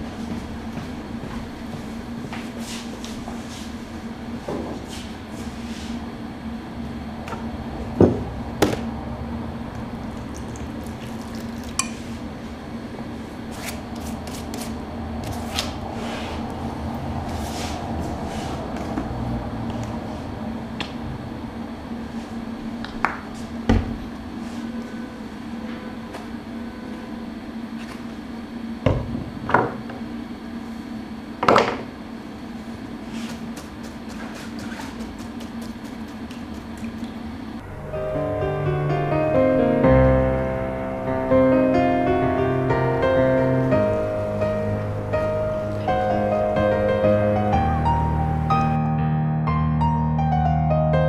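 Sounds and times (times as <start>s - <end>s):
steady low hum: 0.0s - 48.8s.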